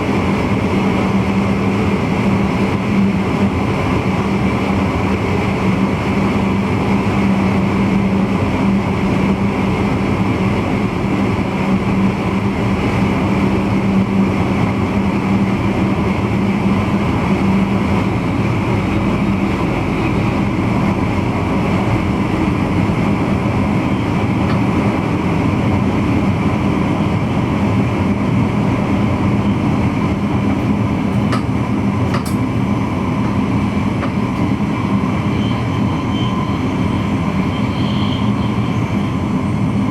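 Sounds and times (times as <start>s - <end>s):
train cab running rumble: 0.0s - 39.9s.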